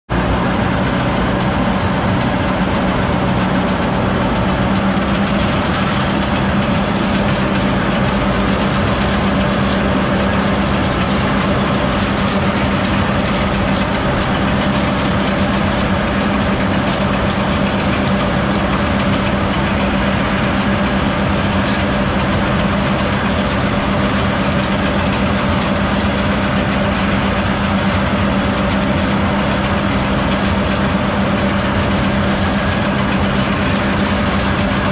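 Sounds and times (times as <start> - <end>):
harvester machinery humming: 0.1 - 34.9.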